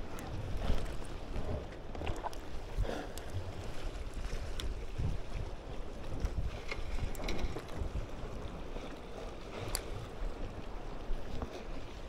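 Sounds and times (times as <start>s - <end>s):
sea washing against breakwater: 0.0s - 12.0s
wind rumbling on microphone: 0.0s - 12.0s.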